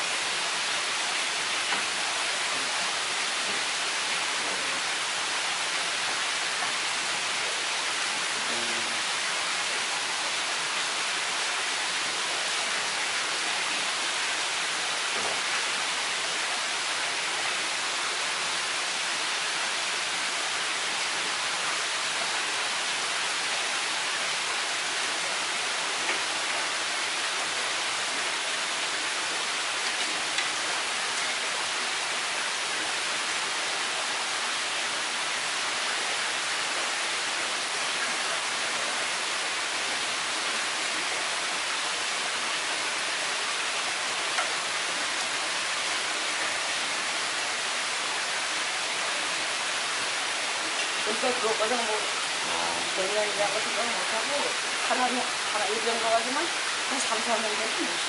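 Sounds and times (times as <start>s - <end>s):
steady rushing hiss: 0.0s - 58.0s.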